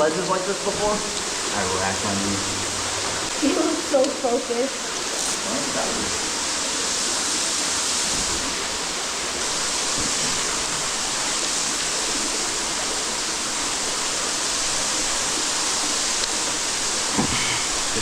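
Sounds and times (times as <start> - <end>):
waterfall rushing in cave: 0.0 - 18.0.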